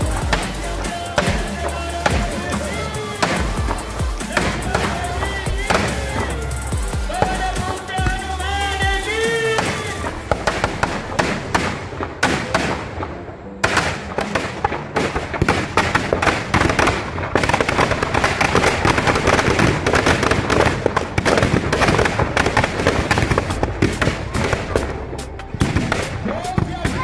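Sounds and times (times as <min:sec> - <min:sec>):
firecrackers banging and crackling: 0:00.0 - 0:27.0.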